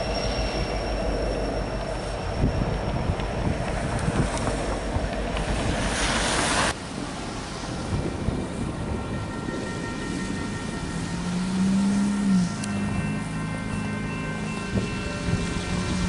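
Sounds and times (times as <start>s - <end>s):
faint steady tones: 0.0s - 5.6s, 6.9s - 16.0s
train rumbling past: 0.0s - 16.0s
wind noise on microphone: 1.6s - 13.3s, 14.3s - 16.0s.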